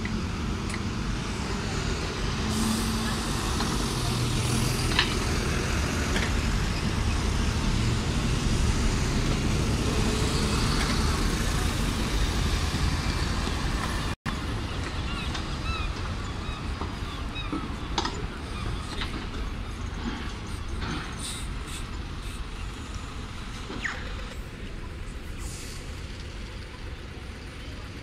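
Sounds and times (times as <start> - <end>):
buses passing close by: 0.0 - 28.0
steady street traffic: 0.0 - 28.0
tyre and road noise: 0.0 - 28.0.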